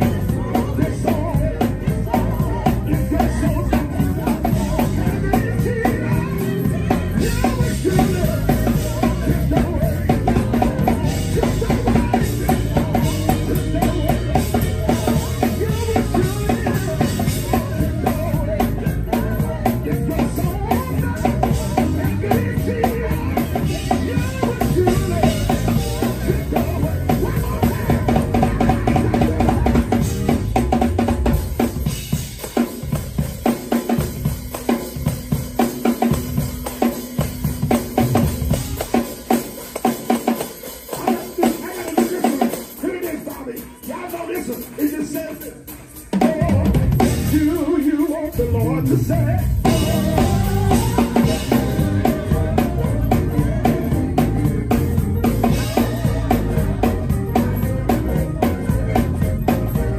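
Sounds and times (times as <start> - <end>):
bass drum: 0.0 - 38.9, 46.4 - 47.8, 48.4 - 59.9.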